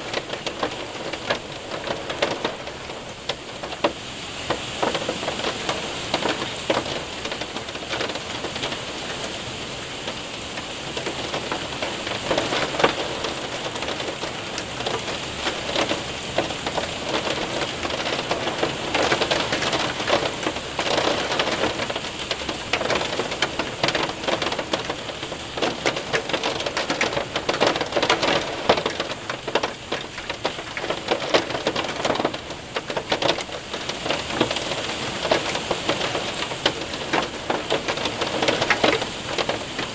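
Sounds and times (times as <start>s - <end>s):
hailstones ticking: 0.0s - 39.9s
steady rain hiss: 0.0s - 39.9s.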